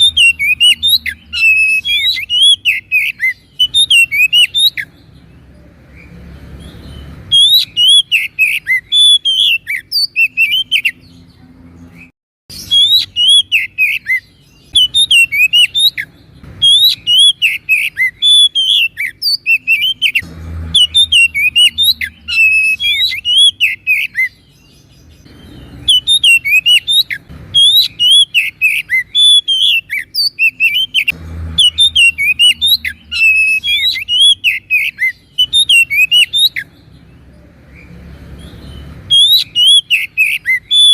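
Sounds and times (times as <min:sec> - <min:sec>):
bird singing whistled phrases: 0:00.0 - 0:04.9, 0:06.0 - 0:11.2, 0:12.5 - 0:24.8, 0:25.4 - 0:36.8, 0:37.7 - 0:40.9.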